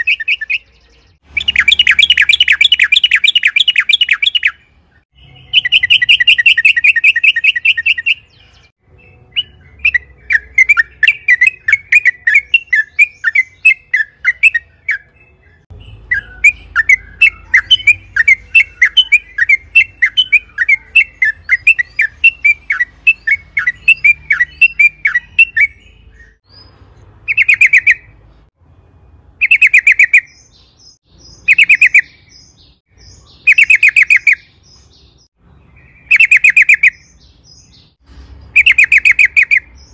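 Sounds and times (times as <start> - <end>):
bulbul singing: 0.0 - 28.5, 29.3 - 39.9.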